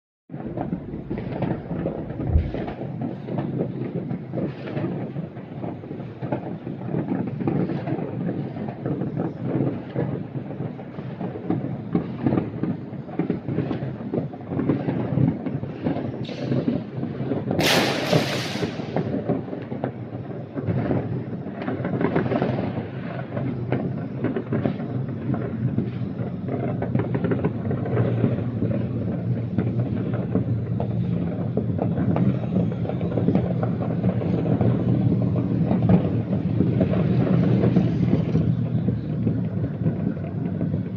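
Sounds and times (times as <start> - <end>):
fireworks bangs and crackles: 0.3 - 40.9
firework hiss: 0.4 - 40.9.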